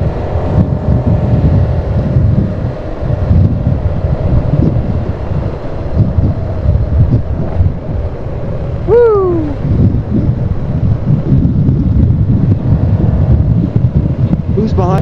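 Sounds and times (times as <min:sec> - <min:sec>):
faint steady whine: 0:00.0 - 0:14.9
off-road vehicle engine running: 0:00.0 - 0:15.0
wind buffeting microphone: 0:00.0 - 0:15.0.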